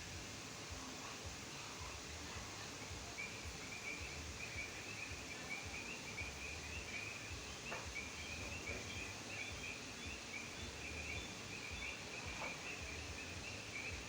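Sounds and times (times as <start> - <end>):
background hiss and low rumble: 0.0 - 14.0
frogs chirping: 0.0 - 14.0.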